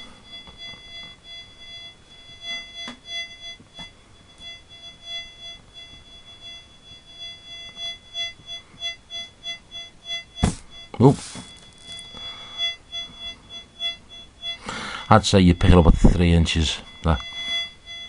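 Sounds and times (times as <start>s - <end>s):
pinpointer electronic tone pulses: 0.0s - 18.0s.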